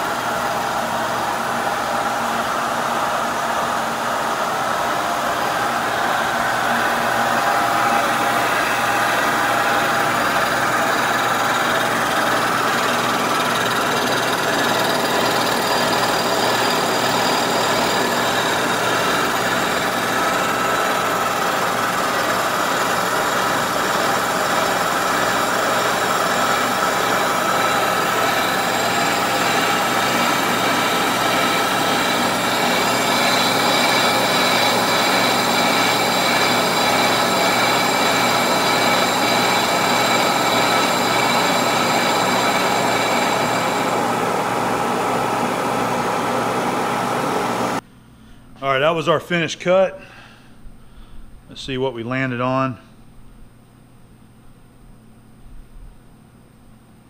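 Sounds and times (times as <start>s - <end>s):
milling machine cutting metal: 0.0s - 47.8s.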